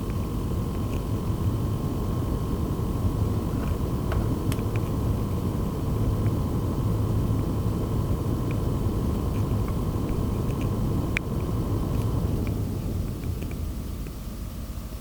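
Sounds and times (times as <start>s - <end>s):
faint high whine: 0.0s - 15.0s
fan humming: 0.0s - 15.0s.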